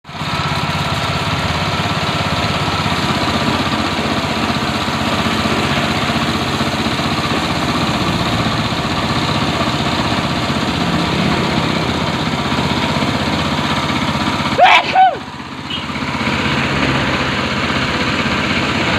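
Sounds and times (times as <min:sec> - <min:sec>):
small engine idling: 0:00.0 - 0:18.9.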